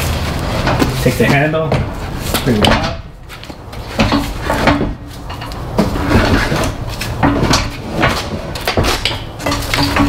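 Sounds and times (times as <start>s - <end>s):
pallet jack clanking and scraping: 0.0s - 10.0s.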